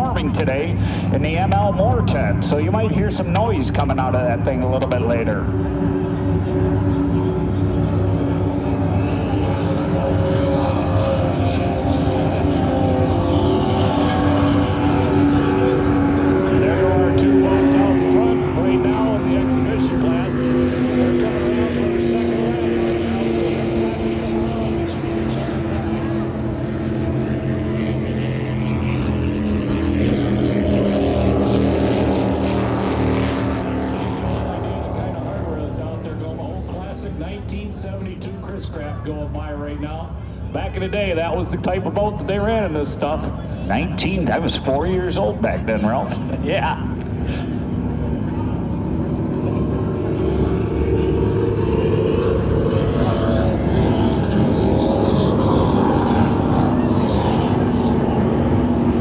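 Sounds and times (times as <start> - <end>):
powerboat engines drone: 0.0 - 59.0.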